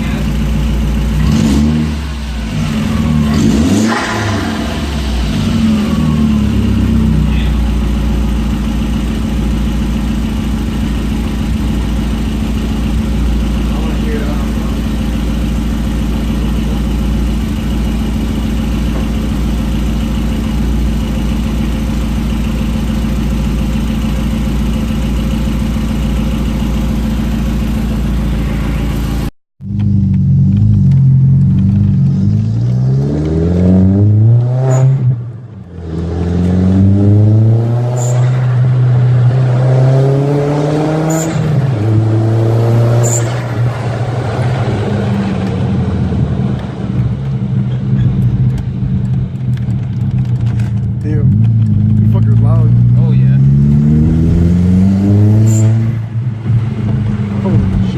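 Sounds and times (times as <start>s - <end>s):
turbocharged car engine revving: 0.0s - 57.9s.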